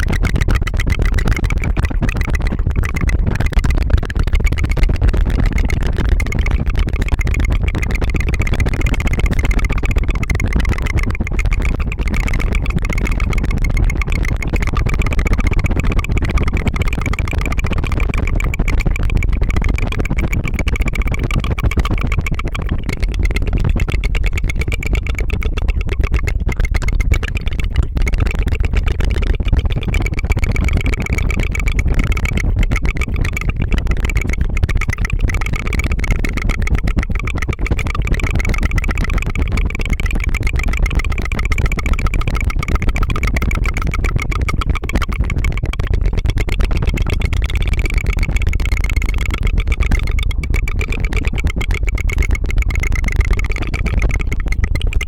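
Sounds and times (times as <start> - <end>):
tongue fluttering trill: 0.0 - 55.0.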